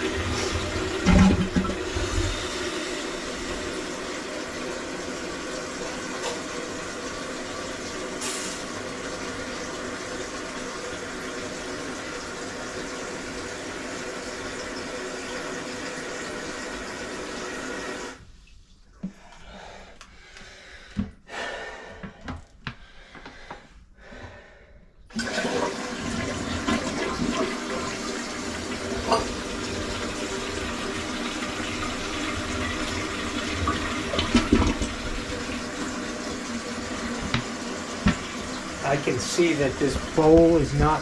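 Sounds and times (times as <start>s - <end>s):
water running: 0.0s - 20.5s, 25.1s - 41.0s
toilet flushing: 0.0s - 20.6s, 25.1s - 41.0s.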